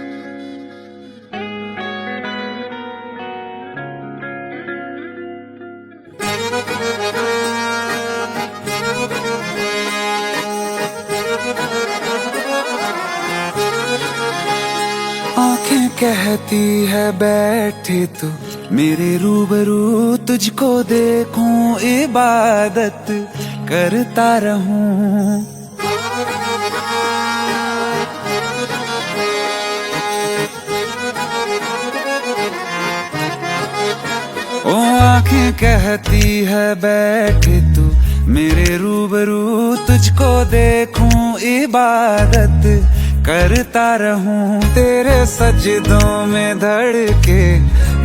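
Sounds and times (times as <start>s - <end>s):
reedy melody: 0.0s - 4.2s, 6.1s - 38.8s, 44.6s - 48.0s.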